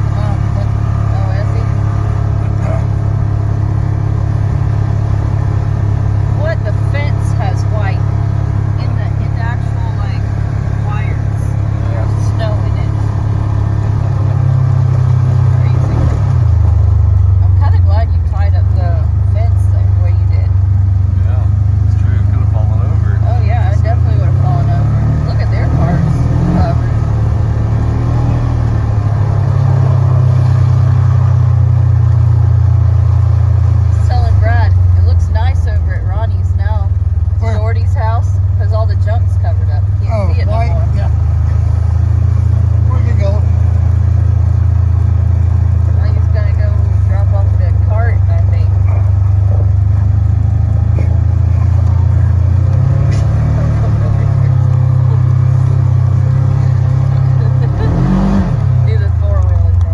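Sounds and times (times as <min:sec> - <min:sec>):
vehicle engine drone: 0:00.0 - 0:59.9.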